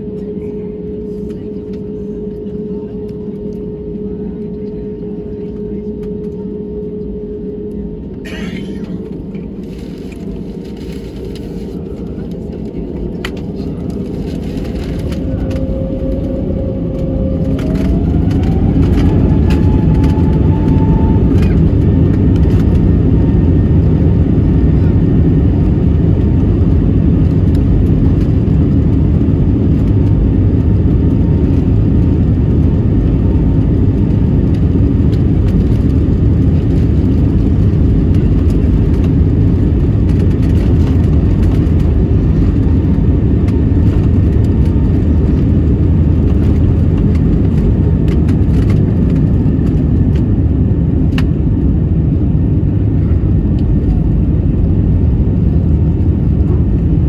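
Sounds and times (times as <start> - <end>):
jet engine rumble: 0.0 - 57.0
jet engine whine: 0.0 - 57.0.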